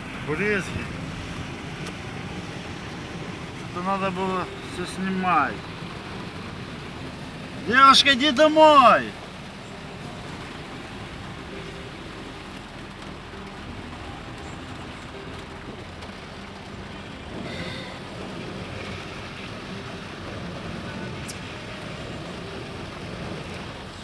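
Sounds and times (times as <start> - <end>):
car engine running: 0.0 - 24.0
water washing against car: 0.0 - 24.0.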